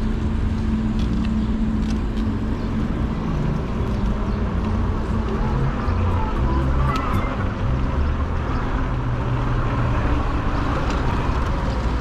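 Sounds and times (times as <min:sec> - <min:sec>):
bike road and wind noise: 0:00.0 - 0:12.0.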